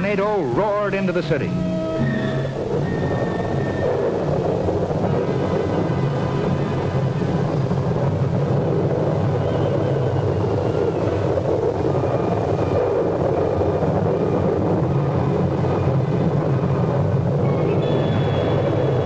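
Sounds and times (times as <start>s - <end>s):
deep rumble: 0.0s - 19.0s
tornado wind roaring: 0.0s - 19.0s.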